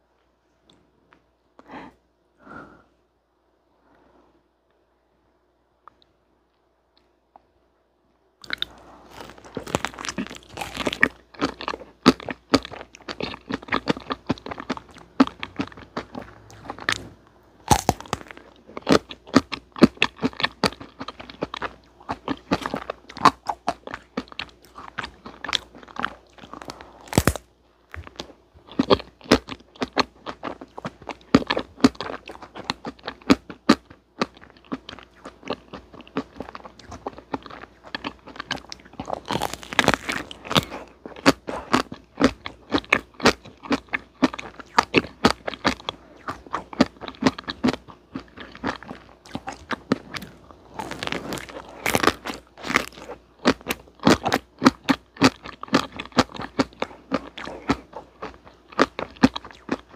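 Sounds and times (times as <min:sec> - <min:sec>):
chocolate shell crunching: 0:08.4 - 0:17.0, 0:17.7 - 0:59.9
wet chewing: 0:08.4 - 0:59.9.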